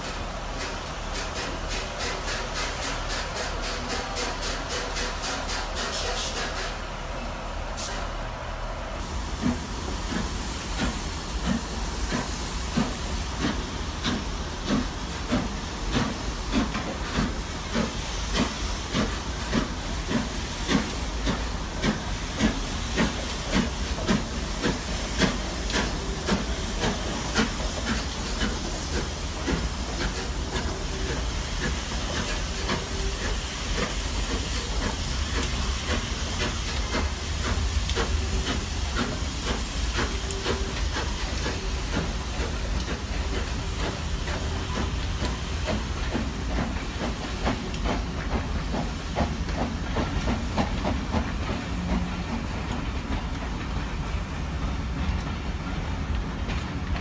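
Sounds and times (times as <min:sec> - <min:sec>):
hissing steam: 0:00.0 - 0:57.0
steam locomotive chuffing: 0:00.0 - 0:57.0.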